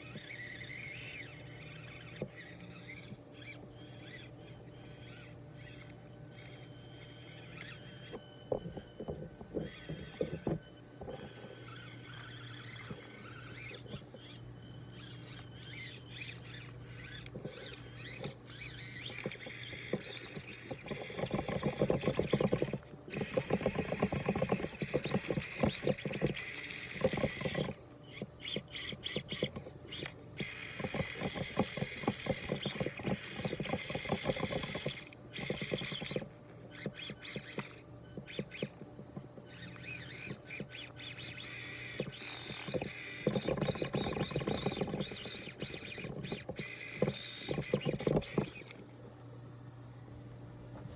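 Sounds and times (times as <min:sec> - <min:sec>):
electric motor whine: 0:00.0 - 0:50.9.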